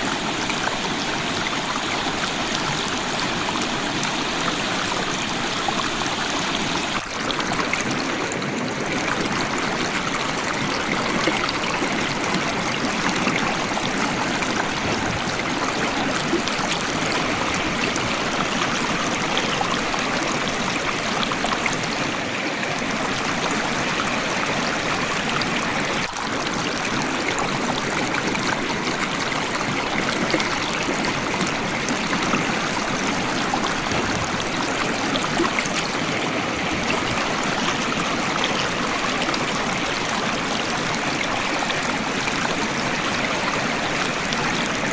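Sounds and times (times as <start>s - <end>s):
river water flowing over stones: 0.0s - 44.9s.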